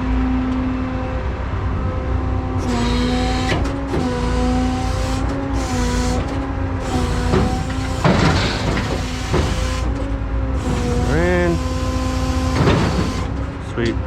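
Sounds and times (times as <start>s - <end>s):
truck engine humming: 0.0s - 14.0s.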